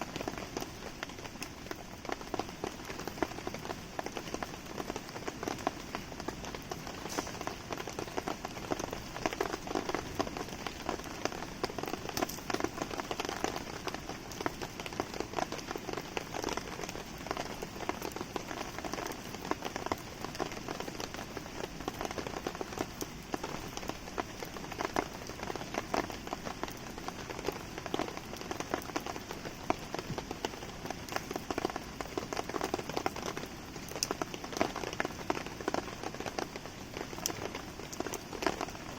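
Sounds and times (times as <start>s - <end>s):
campfire crackling: 0.0s - 38.9s
rain pattering: 0.0s - 38.9s.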